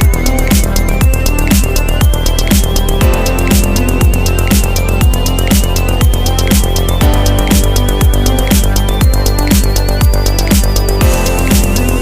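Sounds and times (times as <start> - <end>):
held synth melody: 0.0 - 12.0
kick drum: 0.0 - 12.0.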